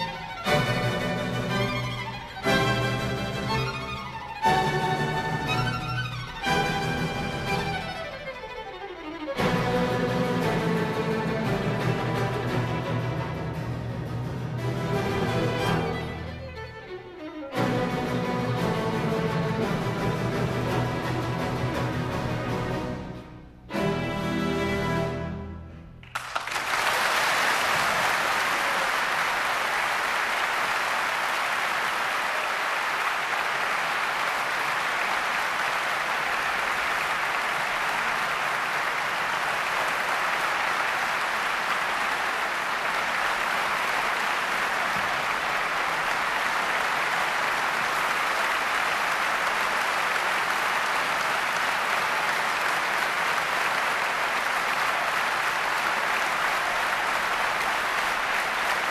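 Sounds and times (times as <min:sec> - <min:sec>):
audience applauding: 0:00.0 - 0:17.0, 0:26.0 - 0:58.9.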